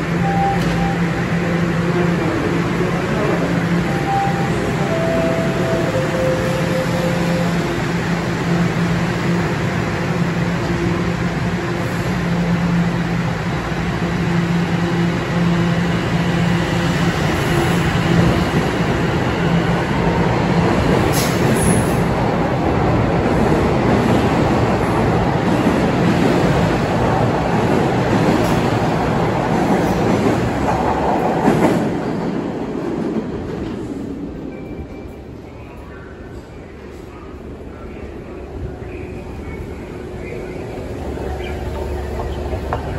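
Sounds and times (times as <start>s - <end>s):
subway train humming: 0.0s - 42.9s
subway train pulling out: 0.0s - 42.9s.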